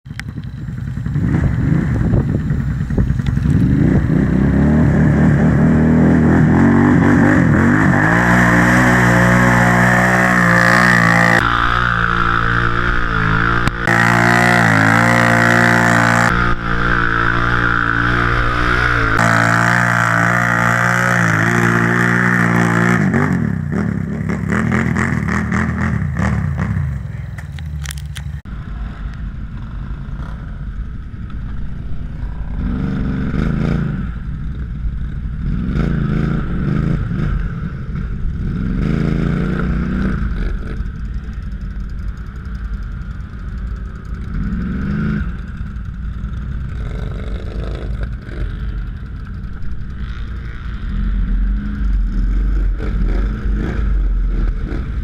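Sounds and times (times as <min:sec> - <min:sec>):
quad engine revving: 0:00.6 - 0:29.0, 0:32.0 - 0:41.4, 0:43.8 - 0:55.0.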